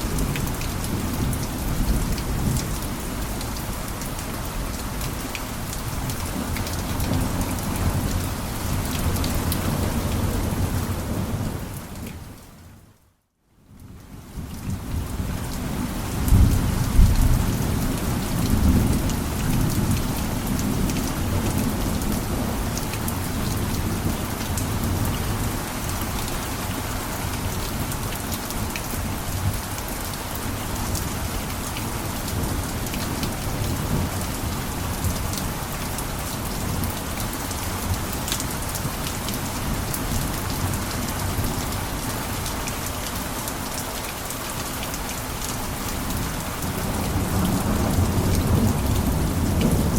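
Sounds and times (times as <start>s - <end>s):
heavy rain on a rooftop: 0.0s - 49.9s.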